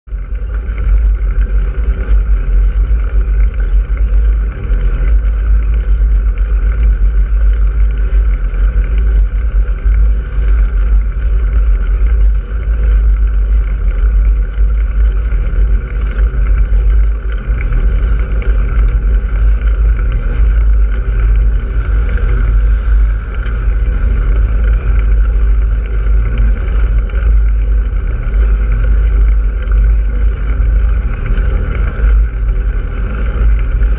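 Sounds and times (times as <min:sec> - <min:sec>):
constant higher noise band: 0:00.0 - 0:33.9
wind rumble on microphone: 0:00.0 - 0:33.9.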